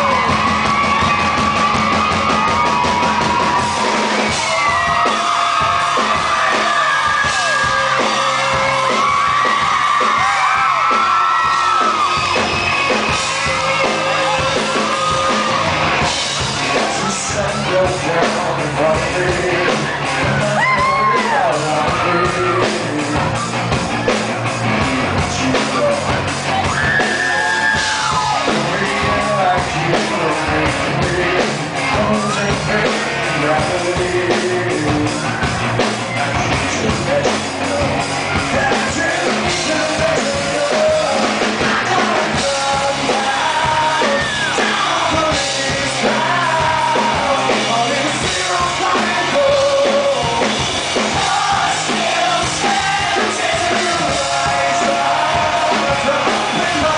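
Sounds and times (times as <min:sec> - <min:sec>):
crowd shouting and yelling: 0:00.0 - 0:56.9
live rock band playing: 0:00.0 - 0:56.9
male lead singer: 0:00.0 - 0:56.9.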